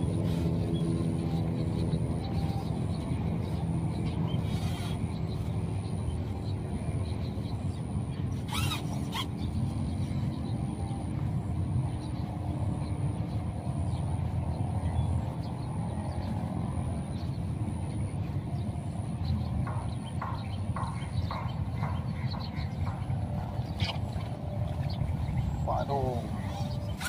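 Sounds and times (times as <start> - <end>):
low rumbling outdoor noise: 0.0 - 27.0.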